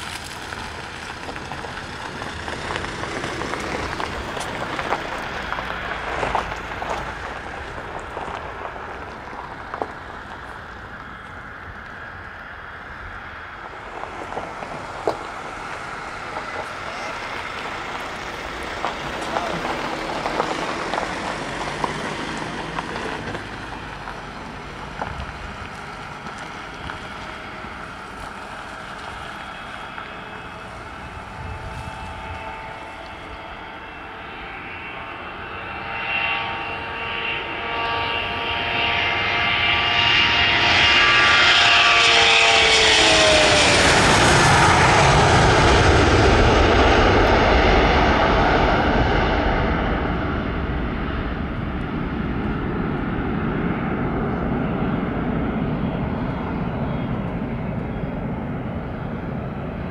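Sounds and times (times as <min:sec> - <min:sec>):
jet engines roaring at takeoff: 0:00.0 - 0:59.9.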